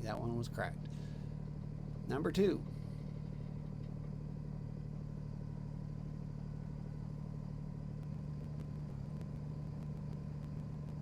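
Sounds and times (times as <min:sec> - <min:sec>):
diesel tractor engine idling: 0:00.0 - 0:11.0.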